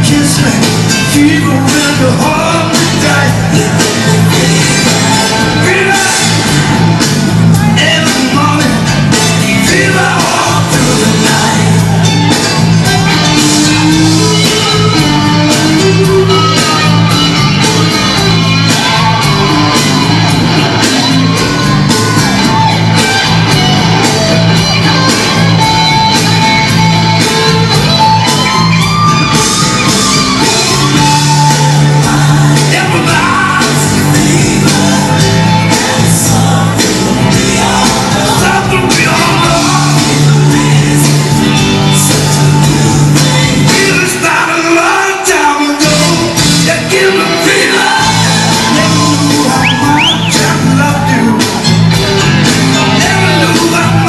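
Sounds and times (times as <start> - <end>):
person singing: 0.0 - 54.0
pop dance music: 0.0 - 54.0.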